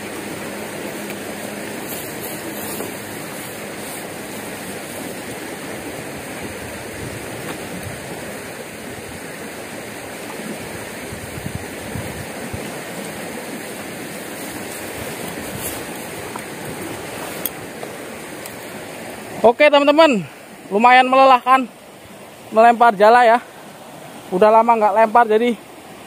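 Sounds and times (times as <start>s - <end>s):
fast flowing flooded creek: 0.0s - 26.0s.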